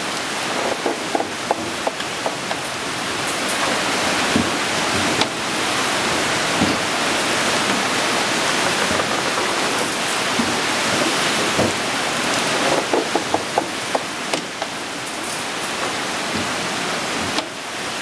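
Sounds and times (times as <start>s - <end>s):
water wheel paddle thuds: 0.0s - 15.0s, 15.7s - 17.6s
water rushing and splashing: 0.0s - 18.0s.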